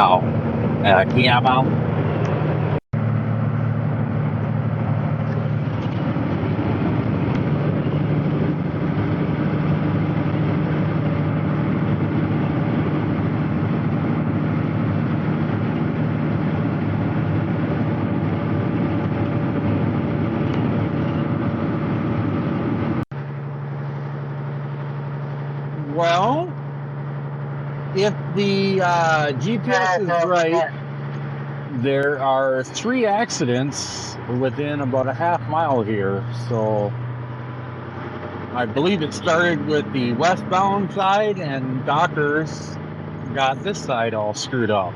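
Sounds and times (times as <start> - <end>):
truck engine and road noise: 0.0 - 44.9.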